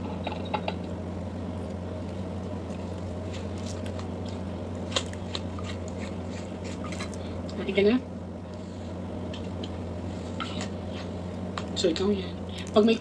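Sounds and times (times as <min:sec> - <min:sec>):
pomegranate peel crackling: 0:00.0 - 0:13.0
steady low hum: 0:00.0 - 0:13.0.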